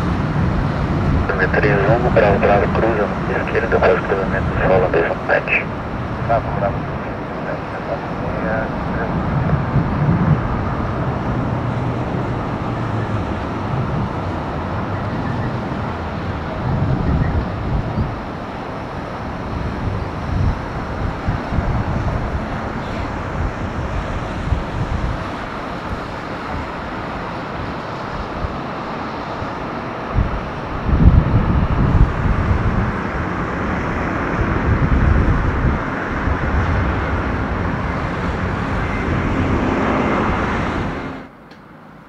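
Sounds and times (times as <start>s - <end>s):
wind rumbling on microphone: 0.0s - 41.3s
jet engines rushing: 0.0s - 42.0s.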